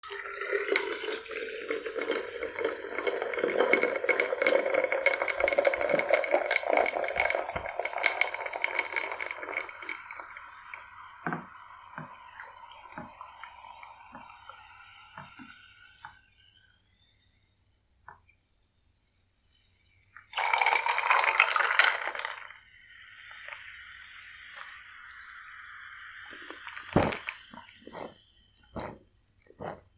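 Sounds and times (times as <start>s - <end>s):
cola pouring into glass: 0.0s - 16.3s, 20.2s - 29.9s
crackling fizz: 0.0s - 16.8s, 20.1s - 29.9s.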